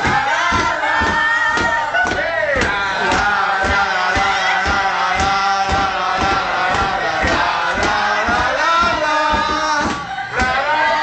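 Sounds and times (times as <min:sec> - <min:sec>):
crowd singing and chanting: 0:00.0 - 0:11.0
rhythmic beat: 0:00.0 - 0:11.0.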